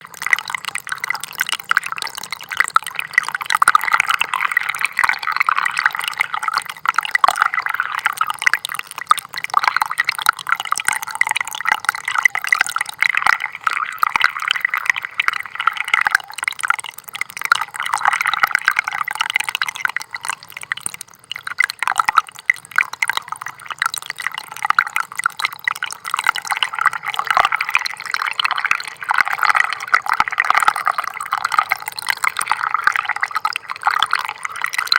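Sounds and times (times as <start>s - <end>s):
stream trickling: 0.0s - 34.9s.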